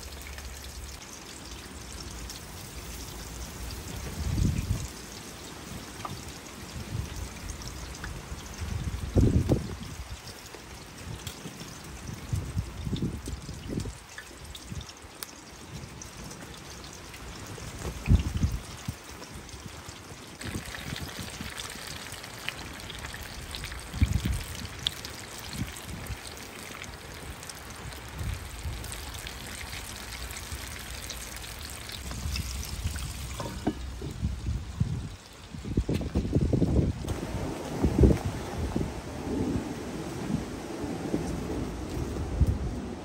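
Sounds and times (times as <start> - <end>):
chicken sizzling in hot oil: 0.0 - 37.2.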